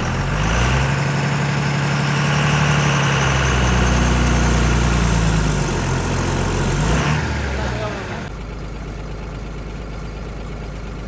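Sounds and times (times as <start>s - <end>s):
diesel engine revving: 0.0s - 9.0s.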